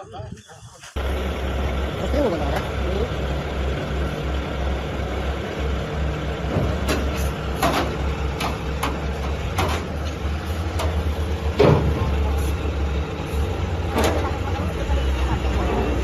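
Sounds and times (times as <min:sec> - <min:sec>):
heavy vehicle engine running: 0:01.0 - 0:16.0.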